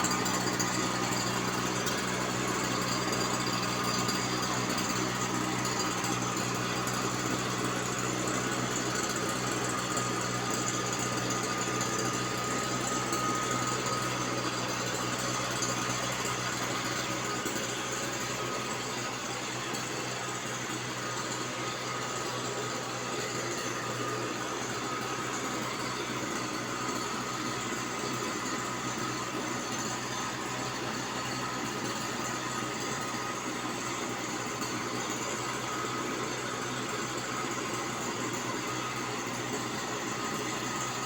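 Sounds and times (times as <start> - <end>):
small sprayer motor running: 0.0 - 41.0.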